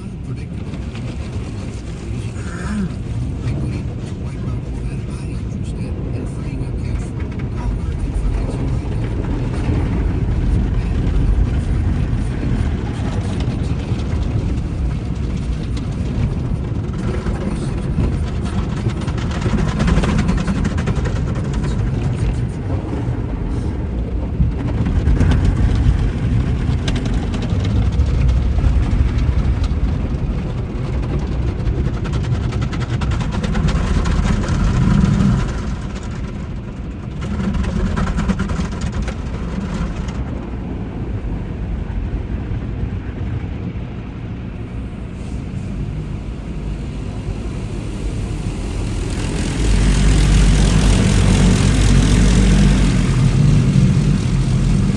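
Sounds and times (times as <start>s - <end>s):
vehicle rumble: 0.0s - 54.9s.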